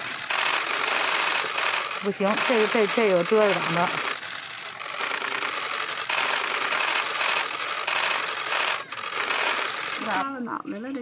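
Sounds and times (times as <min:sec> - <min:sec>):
nestlings begging chatter: 0:00.0 - 0:10.5.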